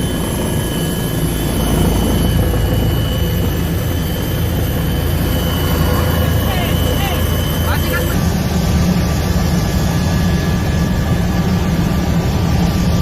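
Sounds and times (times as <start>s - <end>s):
helicopter deep rumble: 0.0s - 13.0s
helicopter high whine: 0.0s - 13.0s.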